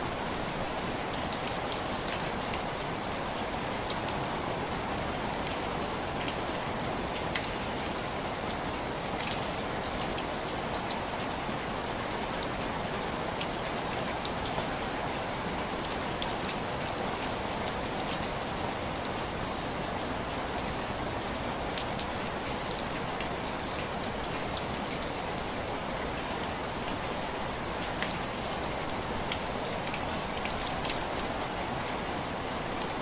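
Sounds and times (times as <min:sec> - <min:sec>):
rain on window glass: 0:00.0 - 0:33.0.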